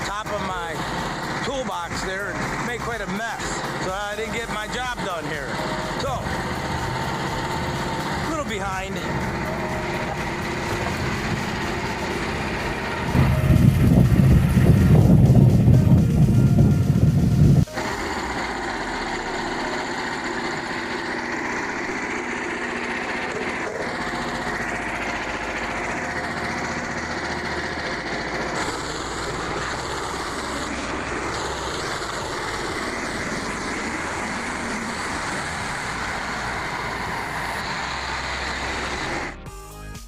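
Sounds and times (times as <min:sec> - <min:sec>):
loud low rumble: 0:00.0 - 0:39.5
small engine running steadily: 0:00.0 - 0:39.6.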